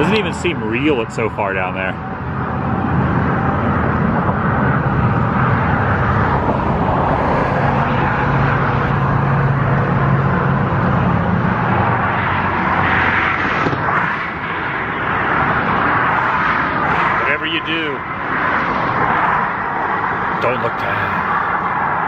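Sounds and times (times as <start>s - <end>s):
road traffic rushing past: 0.0s - 22.0s
vehicle engine drone: 0.0s - 22.0s.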